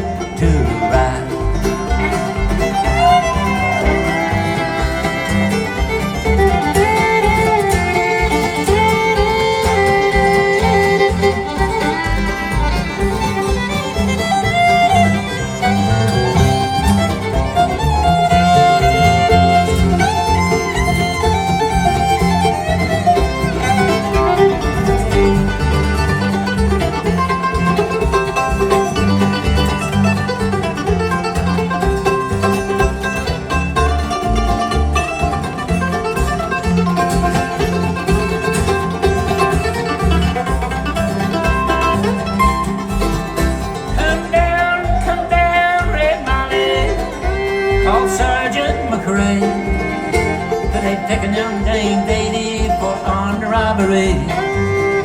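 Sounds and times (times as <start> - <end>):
acoustic guitar: 0.0 - 55.0
banjo rolls: 0.0 - 55.0
bass: 0.0 - 55.0
fiddle lead: 0.0 - 55.0.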